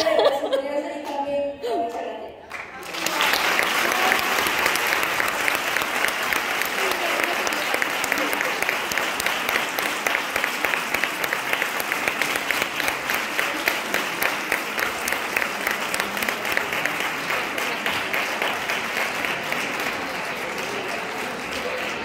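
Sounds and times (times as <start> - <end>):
audience applauding: 2.5 - 22.0.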